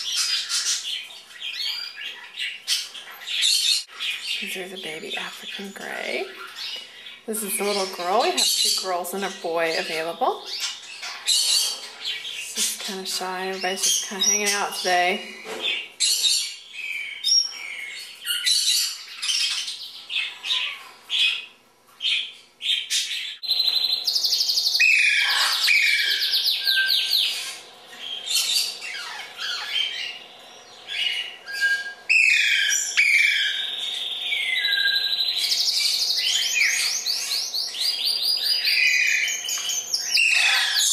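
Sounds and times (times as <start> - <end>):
pet birds chirping and trilling: 0.0 - 40.9.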